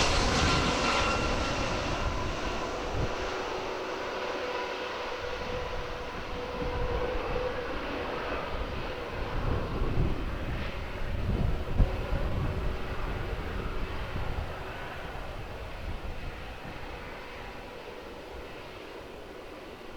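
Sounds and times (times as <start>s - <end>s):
jet engine whine: 0.0s - 19.9s.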